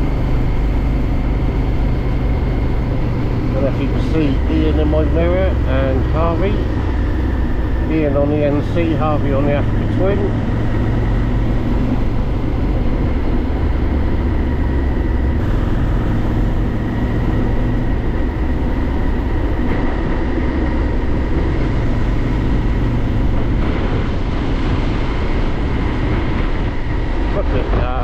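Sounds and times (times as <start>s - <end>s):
motorcycle engine running: 0.0s - 28.0s
wind and road rumble: 0.0s - 28.0s.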